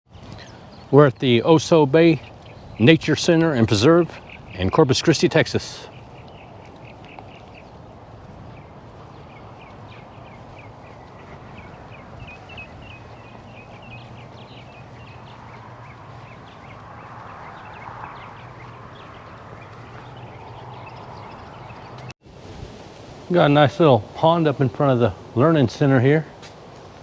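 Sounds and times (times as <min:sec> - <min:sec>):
small birds chirping: 0:00.1 - 0:22.2.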